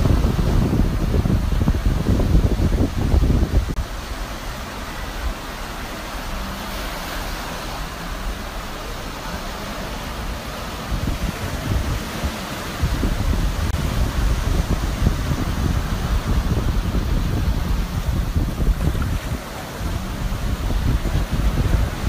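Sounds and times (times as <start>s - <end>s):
faint jet ski engine: 0.0s - 22.0s
surf washing onto shore: 0.0s - 22.0s
wind buffeting microphone: 0.0s - 22.0s.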